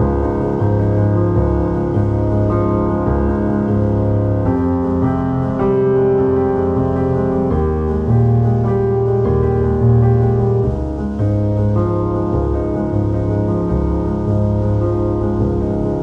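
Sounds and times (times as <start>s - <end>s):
slow keyboard piece: 0.0s - 16.0s.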